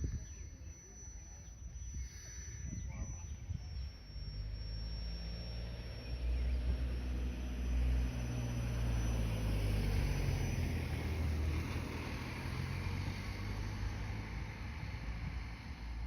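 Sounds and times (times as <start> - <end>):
low droning hum in sky: 0.0 - 16.0.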